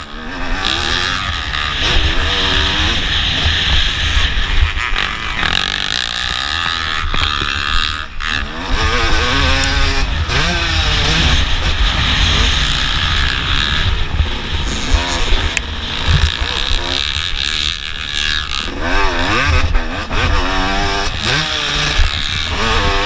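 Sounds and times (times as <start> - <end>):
motorbike engine revving: 0.0 - 23.0
wind noise: 0.0 - 23.0.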